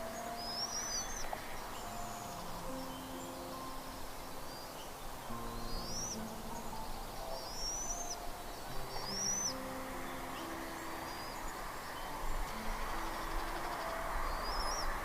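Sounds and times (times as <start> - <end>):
high bird chirps: 0.0 - 15.0
low sustained tones: 0.0 - 15.0.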